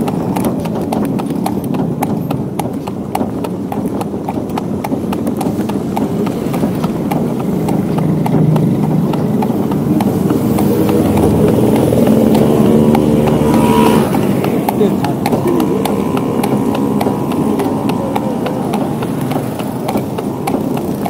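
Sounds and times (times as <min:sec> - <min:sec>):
carriage rumble: 0:00.0 - 0:21.0
horse hooves clip-clopping on asphalt: 0:00.0 - 0:21.0
motor vehicle engine hum: 0:00.0 - 0:21.0.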